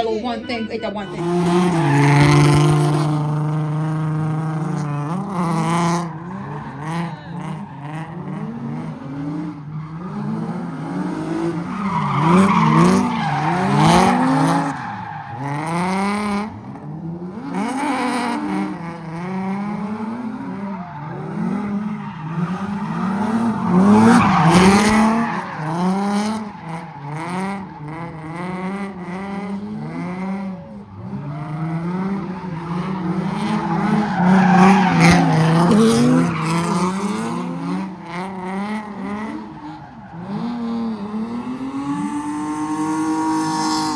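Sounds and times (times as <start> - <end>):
car engines revving: 0.0 - 43.9
tire squeal: 1.0 - 16.7, 17.5 - 43.9.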